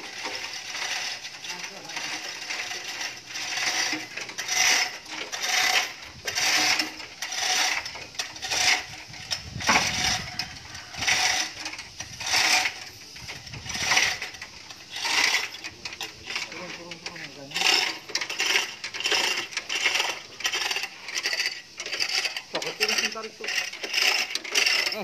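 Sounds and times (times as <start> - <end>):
hoist chain rattling and clinking: 0.0 - 25.0.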